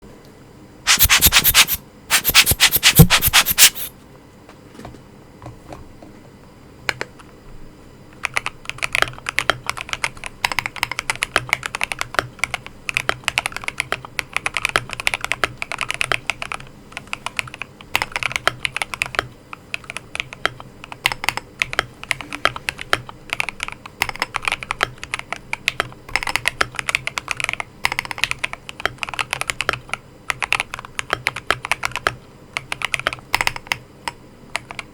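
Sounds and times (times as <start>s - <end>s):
mechanical keyboard typing: 0.9s - 3.9s, 8.2s - 33.8s.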